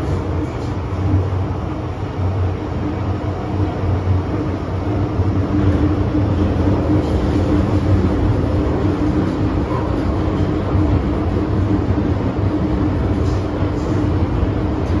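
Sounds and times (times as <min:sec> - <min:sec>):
steady train hum: 0:00.0 - 0:15.0
train wheels rumbling on rail: 0:00.0 - 0:15.0.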